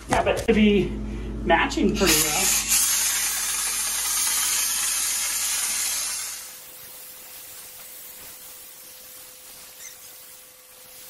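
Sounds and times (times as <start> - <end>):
texture spray gun hissing: 2.0 - 11.0.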